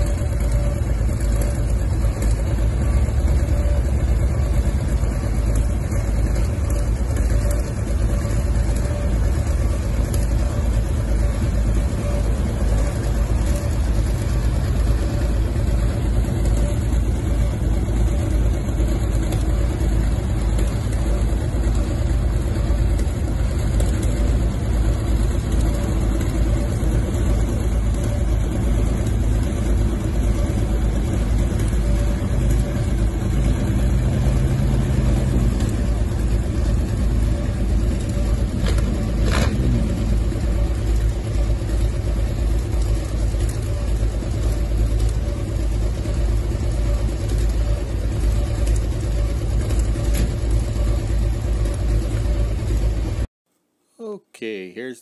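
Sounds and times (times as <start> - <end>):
heavy vehicle engine idling: 0.0 - 53.3.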